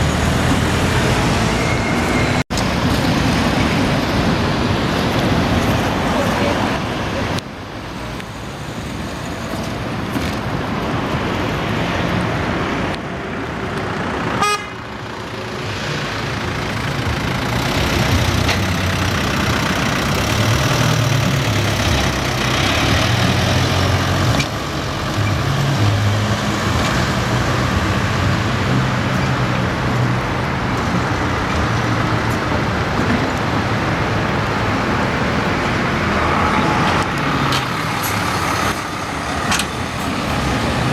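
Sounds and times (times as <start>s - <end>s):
city road traffic: 0.0s - 40.9s
heavy vehicle engine: 0.0s - 40.9s.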